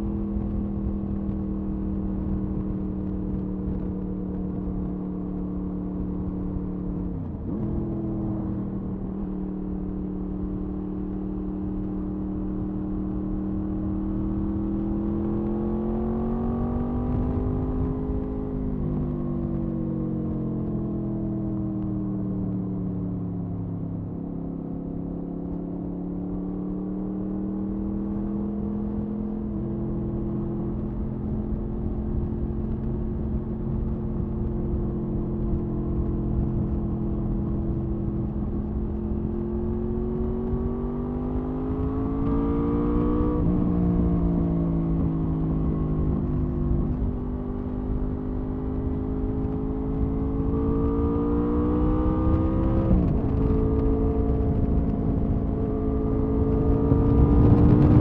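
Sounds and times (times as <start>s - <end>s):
motorcycle engine and exhaust: 0.0s - 58.0s
wind rumble on microphone: 0.0s - 58.0s.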